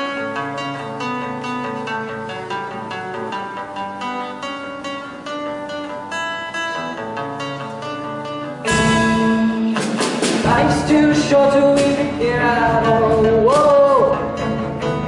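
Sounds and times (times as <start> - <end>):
guitar picking single notes: 0.0 - 15.0
strummed guitar chords: 0.0 - 15.0.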